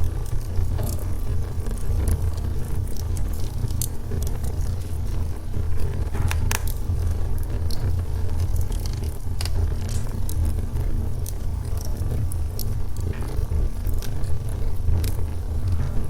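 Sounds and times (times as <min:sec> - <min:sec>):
logs burning in fireplace: 0:00.0 - 0:16.0.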